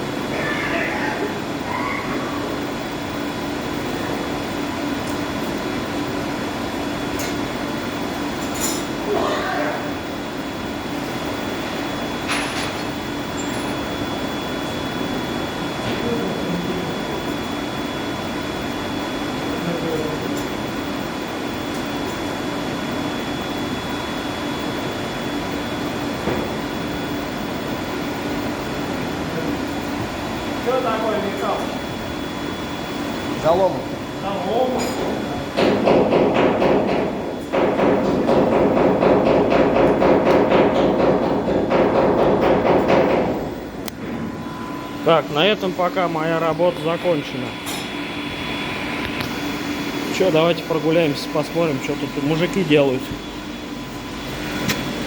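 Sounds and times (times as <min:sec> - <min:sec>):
boiler-house machinery drone: 0:00.0 - 0:55.0.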